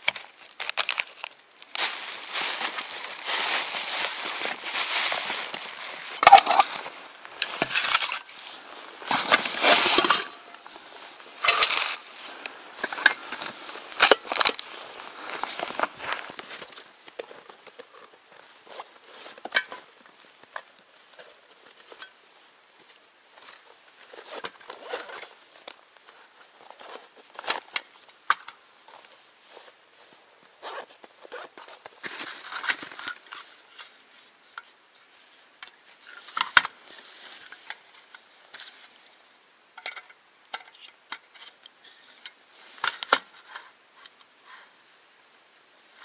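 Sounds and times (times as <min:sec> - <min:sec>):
rustling: 0:00.0 - 0:40.1.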